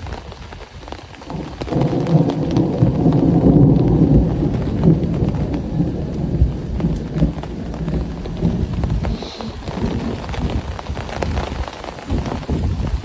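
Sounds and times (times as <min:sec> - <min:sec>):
raindrops pattering: 0:00.0 - 0:13.0
thunder rumbling: 0:01.1 - 0:13.0.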